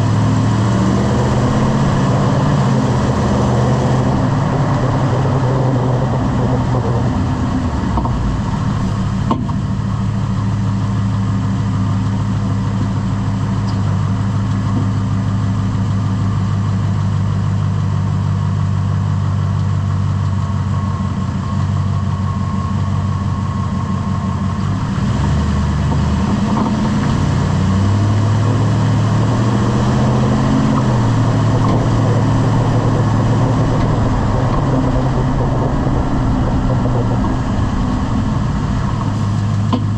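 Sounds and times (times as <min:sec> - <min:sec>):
pickup truck engine running: 0:00.0 - 0:39.9.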